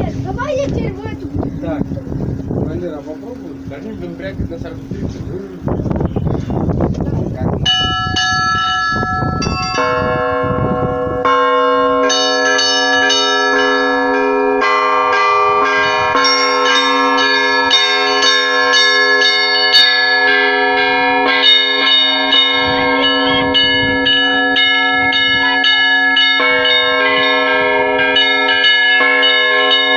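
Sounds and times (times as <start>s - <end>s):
small church bells ringing: 0.0s - 5.7s, 7.6s - 29.9s
large bell hum: 0.0s - 29.9s.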